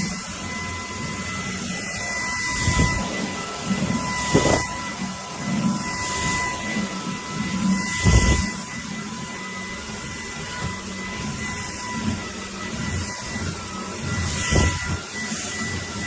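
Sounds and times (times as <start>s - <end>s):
stick vacuum whining: 0.0s - 16.0s.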